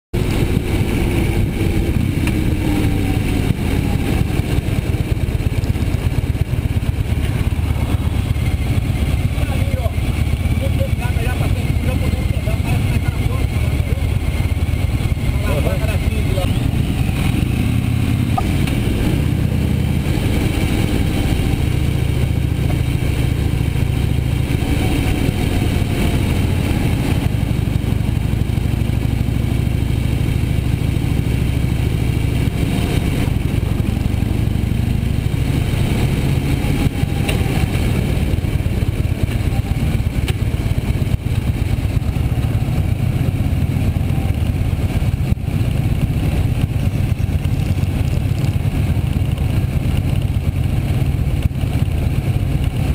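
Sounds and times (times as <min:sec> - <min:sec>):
motorcycle engine running: 0:00.2 - 0:52.9.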